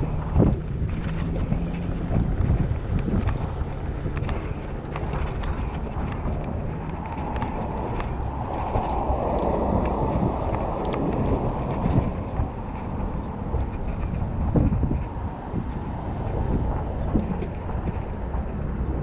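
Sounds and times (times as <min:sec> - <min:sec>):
wind buffeting microphone: 0:00.0 - 0:19.0
small knocks and rattles: 0:00.1 - 0:19.0.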